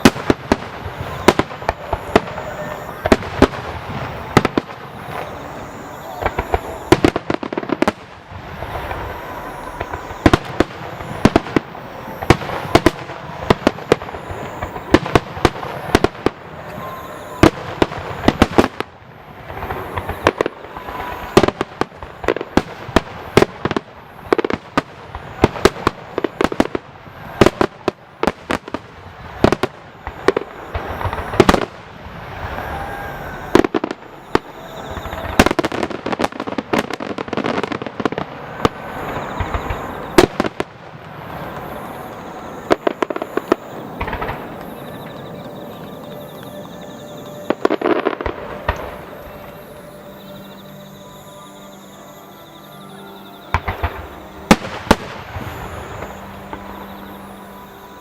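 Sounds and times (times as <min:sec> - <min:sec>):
fireworks bangs and crackles: 0:00.0 - 0:51.6, 0:53.2 - 0:58.0.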